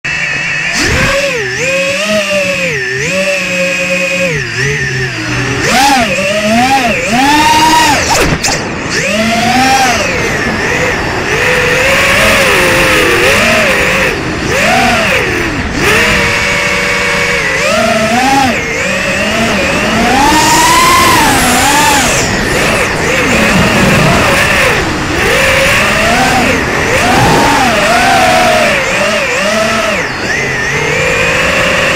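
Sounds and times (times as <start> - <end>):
quadcopter motors whining: 0.0 - 31.9.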